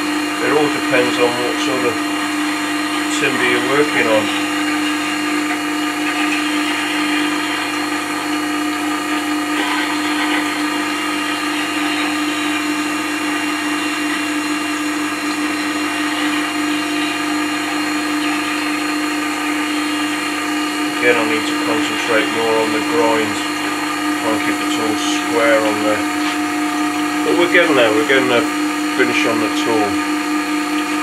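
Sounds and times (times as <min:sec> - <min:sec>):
grinder motor hum: 0:00.0 - 0:31.0.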